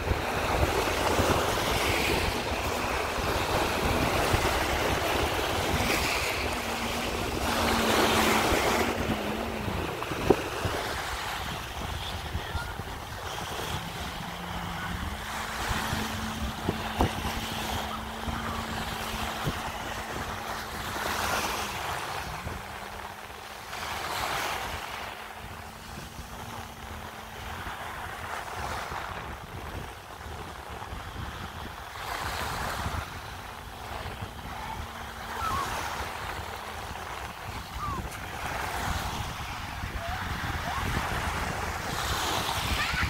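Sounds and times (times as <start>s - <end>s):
faint jet ski engine drone: 0.0s - 43.0s
sea waves washing in: 0.0s - 43.0s
wind buffeting microphone: 0.0s - 43.0s.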